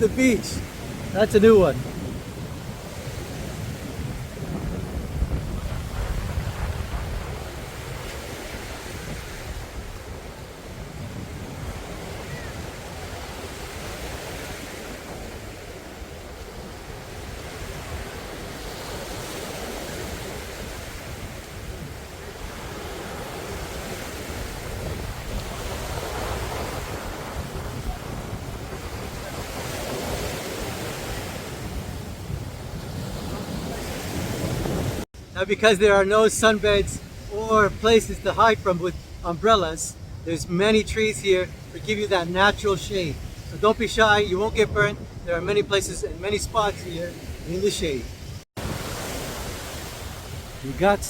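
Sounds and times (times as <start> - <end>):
surf washing onto beach: 0.0 - 51.0
wind buffeting microphone: 0.0 - 51.0.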